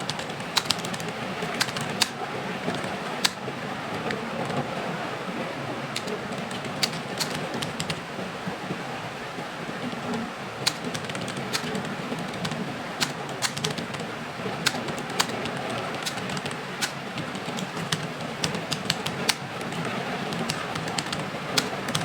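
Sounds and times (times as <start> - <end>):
keyboard typing clicks: 0.0 - 4.6, 5.9 - 8.1, 9.8 - 22.0
steady background noise: 0.0 - 22.0.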